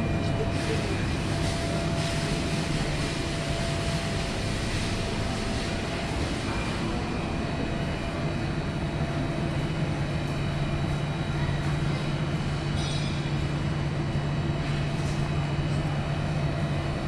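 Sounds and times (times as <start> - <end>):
refrigeration machinery hum: 0.0 - 17.0.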